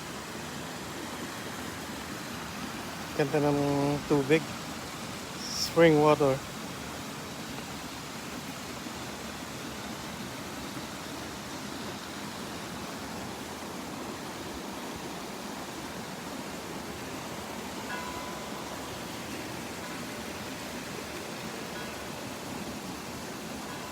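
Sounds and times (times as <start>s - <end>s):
flowing spring water: 0.0s - 23.9s.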